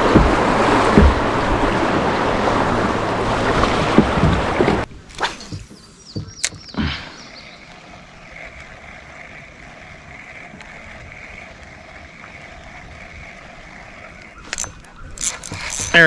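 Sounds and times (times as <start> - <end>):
calm river water hiss: 0.0 - 6.1, 6.8 - 16.0.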